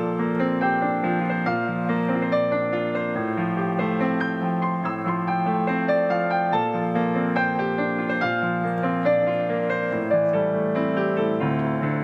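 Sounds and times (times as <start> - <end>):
grand piano playing chords: 0.0 - 12.0.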